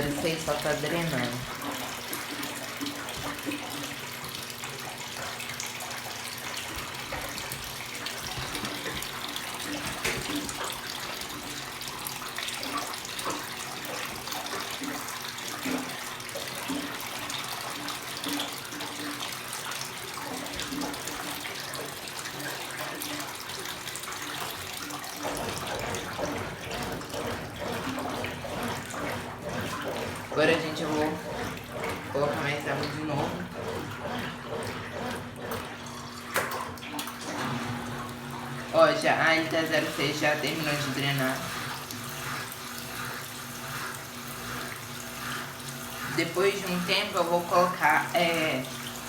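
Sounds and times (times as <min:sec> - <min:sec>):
drain pump humming: 0:00.0 - 0:49.0
water rushing into washing machine: 0:00.0 - 0:49.0.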